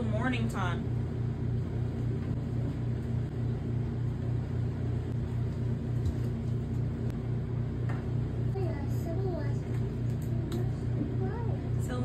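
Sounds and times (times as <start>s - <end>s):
low rumbling pulsing hum: 0.0s - 12.0s.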